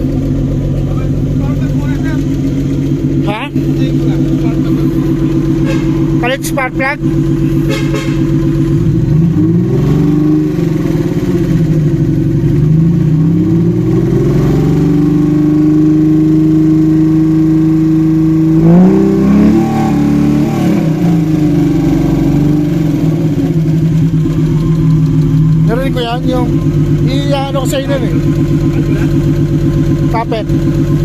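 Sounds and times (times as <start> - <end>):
misfiring car engine revving: 0.0 - 31.0.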